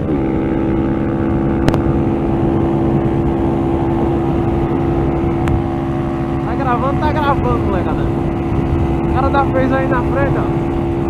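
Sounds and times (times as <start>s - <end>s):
low rumble: 0.0s - 11.0s
motorcycle engine at high revs: 0.0s - 11.0s.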